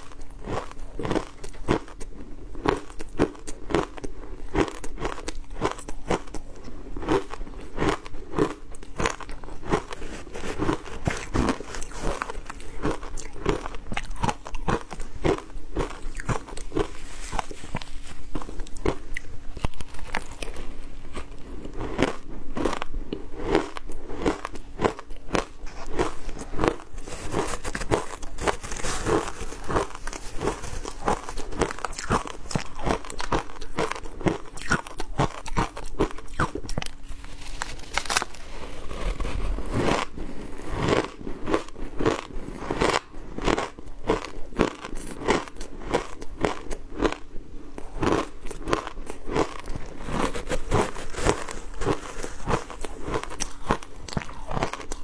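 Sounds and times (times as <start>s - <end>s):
ice crunching as chewed: 0.0s - 55.0s.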